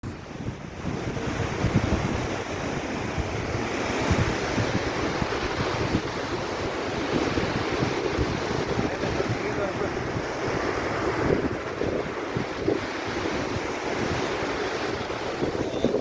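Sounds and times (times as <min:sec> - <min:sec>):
rushing water: 0:00.0 - 0:16.0
wind buffeting the microphone: 0:00.0 - 0:16.0.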